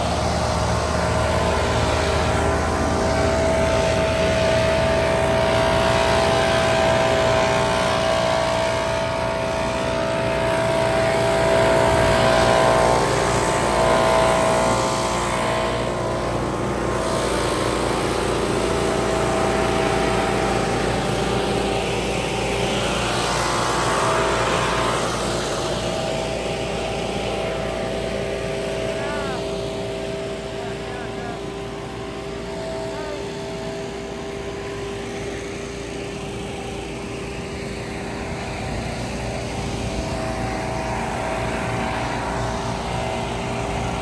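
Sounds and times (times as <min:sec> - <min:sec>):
leaf blowers running: 0:00.0 - 0:44.0.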